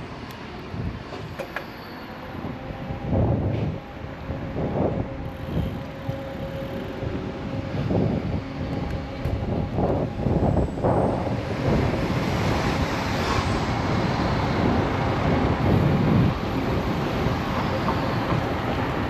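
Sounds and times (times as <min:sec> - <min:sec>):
street traffic: 0:00.0 - 0:19.0
wind rumbling on microphone: 0:00.5 - 0:01.4, 0:02.3 - 0:19.0.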